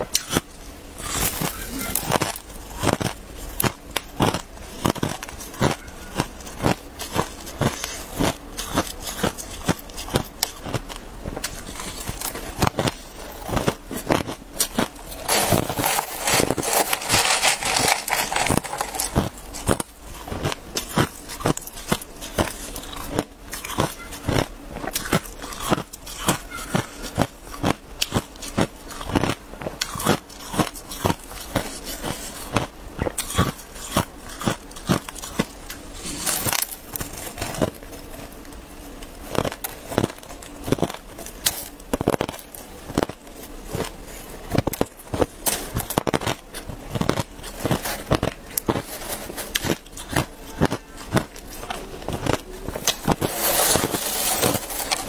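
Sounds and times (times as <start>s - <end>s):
ice being chewed: 0.1s - 55.0s.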